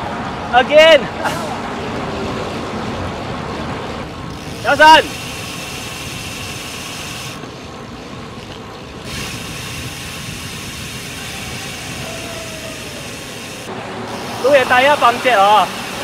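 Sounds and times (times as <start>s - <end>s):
road noise: 0.0s - 16.0s.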